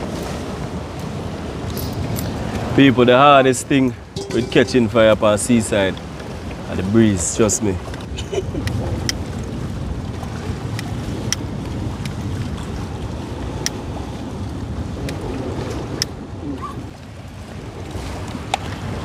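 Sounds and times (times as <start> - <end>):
wind buffeting the microphone: 0.0 - 19.0.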